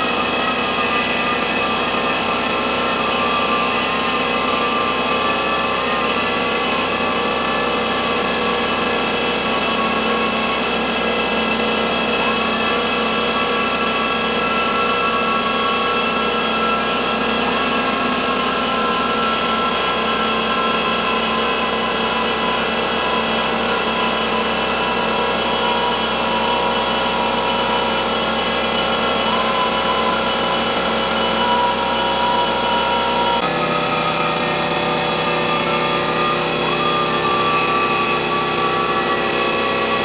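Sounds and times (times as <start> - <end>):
pneumatic sander on metal: 0.0 - 40.0.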